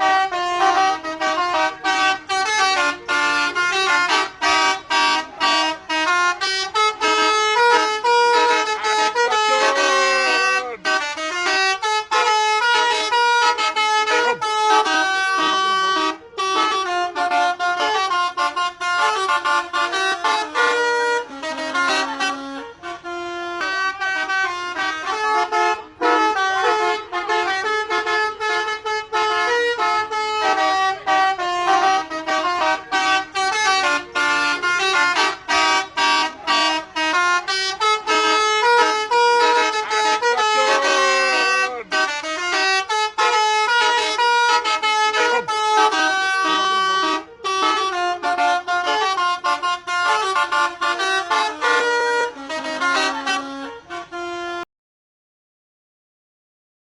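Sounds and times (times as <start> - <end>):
multi-note air horn tune: 0.0 - 54.7.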